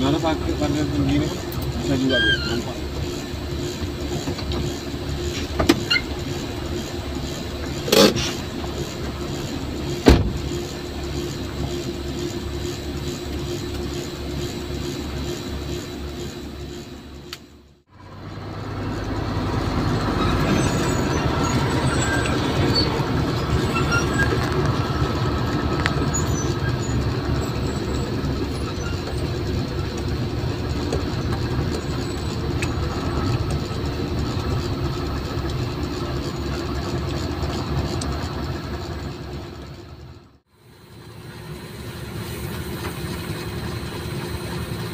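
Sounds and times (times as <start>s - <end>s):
diesel engine rumble: 0.0s - 44.9s.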